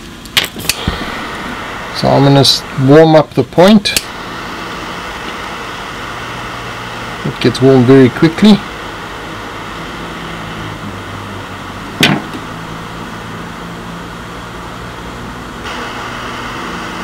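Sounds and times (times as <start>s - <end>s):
blow torch hissing: 0.4s - 17.0s.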